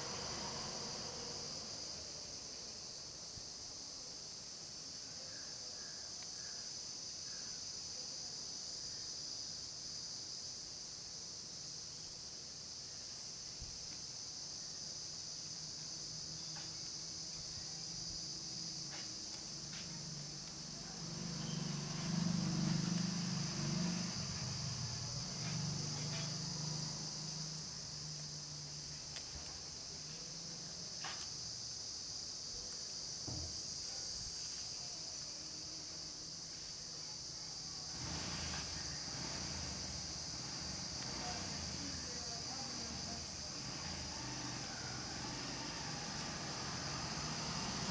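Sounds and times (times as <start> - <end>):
high insect chorus: 0.0 - 47.9.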